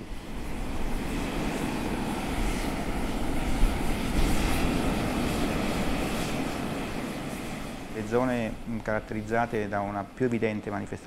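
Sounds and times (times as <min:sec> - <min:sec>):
steam venting hiss: 0:00.0 - 0:11.0.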